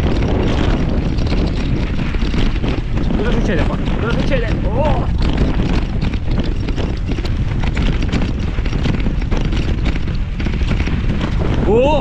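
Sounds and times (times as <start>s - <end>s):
bike clattering over rocks: 0.0s - 12.0s
wind buffeting microphone: 0.0s - 12.0s.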